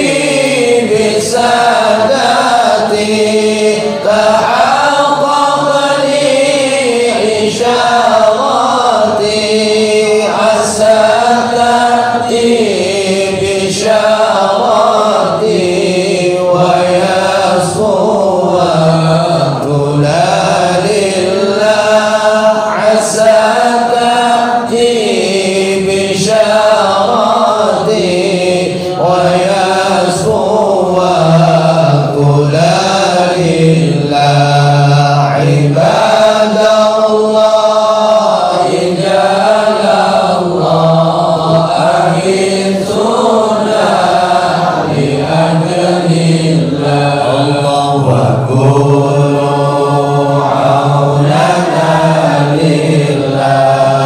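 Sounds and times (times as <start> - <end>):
men chanting: 0.0 - 54.0.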